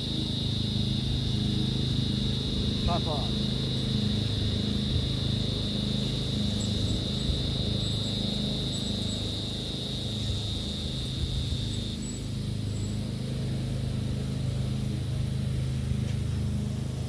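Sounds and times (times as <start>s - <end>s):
high-pitched insect buzz: 0.0s - 16.8s.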